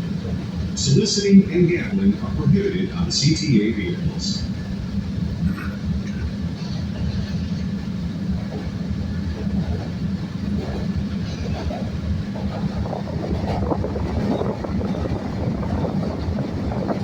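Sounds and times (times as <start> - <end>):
train rumbling on track: 0.0 - 17.0
wheels rattling on rails: 0.0 - 17.0.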